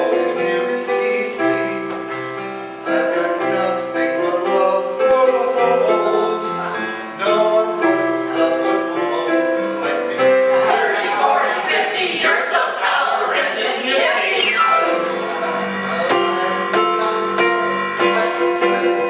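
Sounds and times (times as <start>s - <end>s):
piano accompaniment: 0.0s - 19.0s
voices singing held notes: 0.0s - 19.0s.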